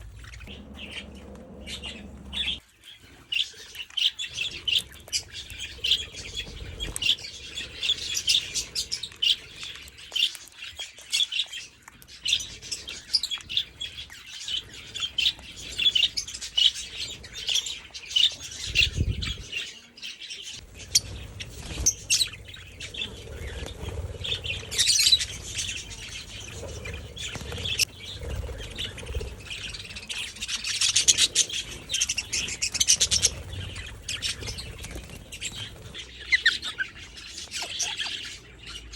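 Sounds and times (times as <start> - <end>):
cockatoos chirping and squawking: 0.0 - 38.9.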